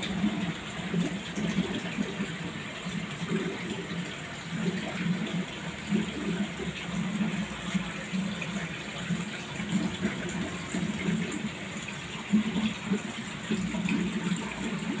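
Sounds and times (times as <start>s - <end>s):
aquarium water bubbling: 0.0s - 15.0s.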